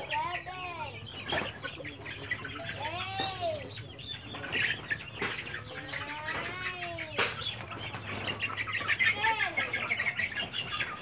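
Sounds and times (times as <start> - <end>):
chickens squawking: 0.0 - 11.0.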